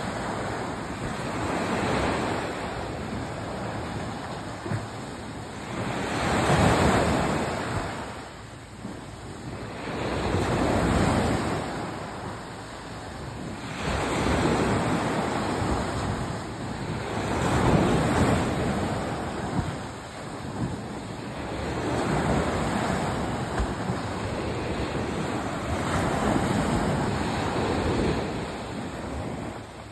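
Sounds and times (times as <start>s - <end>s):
waves breaking on sandy beach: 0.0s - 29.9s.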